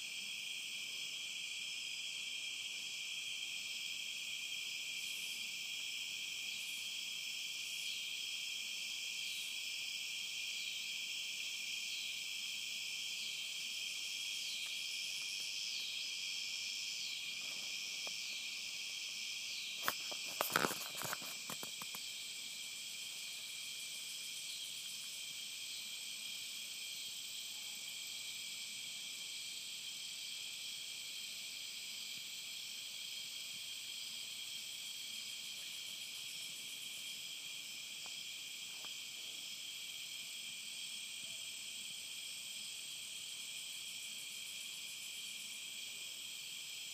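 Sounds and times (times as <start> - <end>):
insects chorus: 0.0 - 46.9
pulsing insect call: 0.0 - 46.9.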